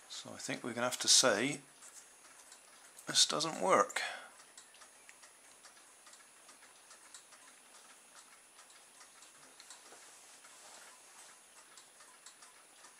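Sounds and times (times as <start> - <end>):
faint ticking: 0.1 - 12.9.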